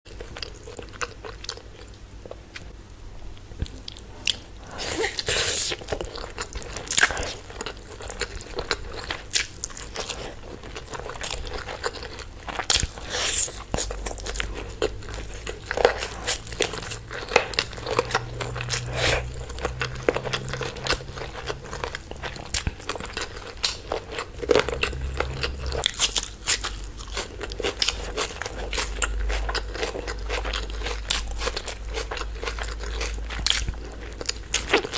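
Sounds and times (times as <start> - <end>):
person chewing food: 0.1 - 34.9.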